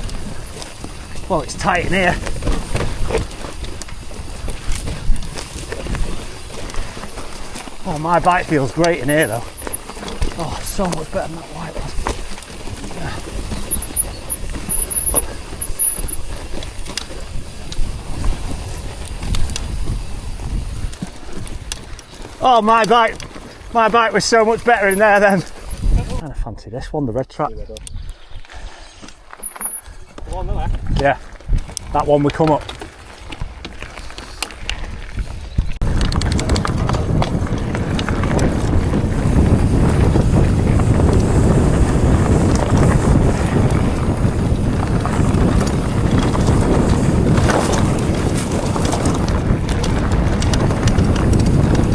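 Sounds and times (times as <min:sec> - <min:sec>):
bike rattling clicks and knocks: 0:00.0 - 0:26.1, 0:29.0 - 0:51.9
bike tyres rumbling over trail: 0:00.0 - 0:51.9
wind buffeting microphone: 0:00.0 - 0:51.9.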